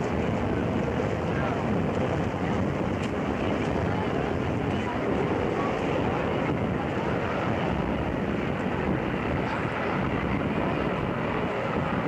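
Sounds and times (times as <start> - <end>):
helicopter rotor and engine: 0.0 - 12.0
wind buffeting microphone: 0.0 - 12.0.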